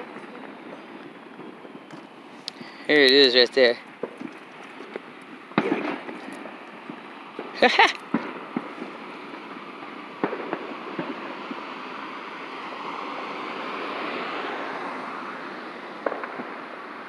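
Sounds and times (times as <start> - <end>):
vehicle passing with whoosh: 0.0 - 17.0.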